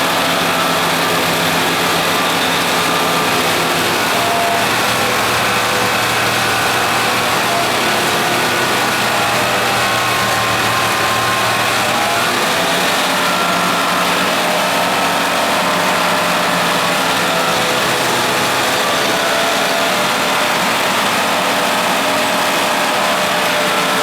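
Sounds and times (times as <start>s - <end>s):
snow blower diesel engine running: 0.0s - 24.0s.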